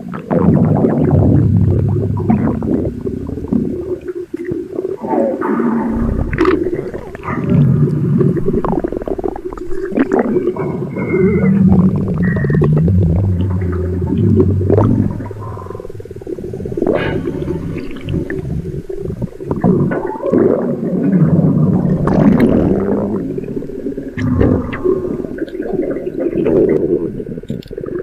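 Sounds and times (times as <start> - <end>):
stomach rumbling and gurgling: 0.0 - 28.0.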